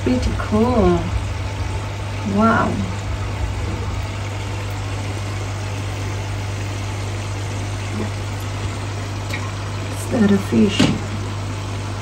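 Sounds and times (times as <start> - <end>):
aquarium pump humming: 0.0 - 12.0
bubbling water hiss: 0.0 - 12.0.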